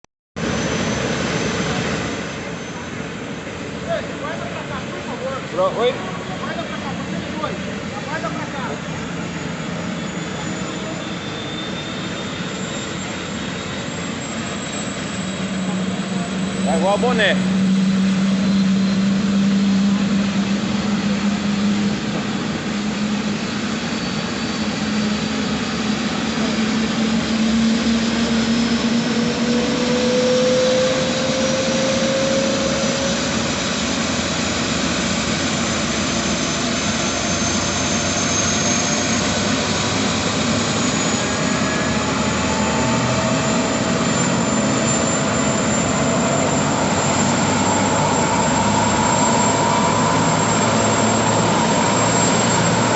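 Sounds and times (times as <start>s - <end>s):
helicopter turbine and rotor: 0.4s - 52.9s.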